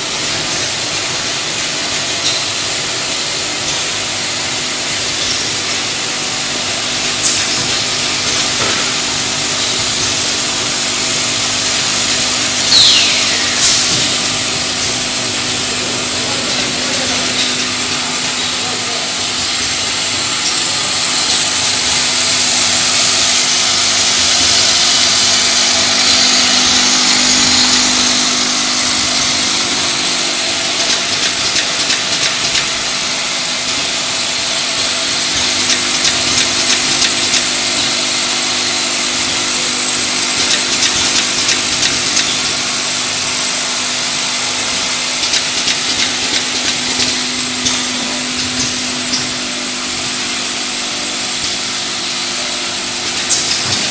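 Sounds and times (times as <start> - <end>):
mechanical whir: 0.6 - 53.9.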